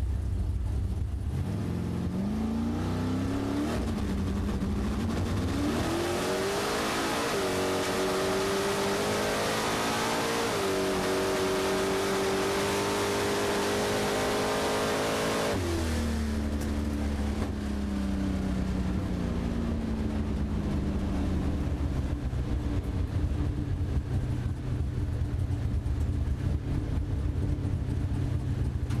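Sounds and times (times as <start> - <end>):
drag car engine at full power: 0.0 - 29.0.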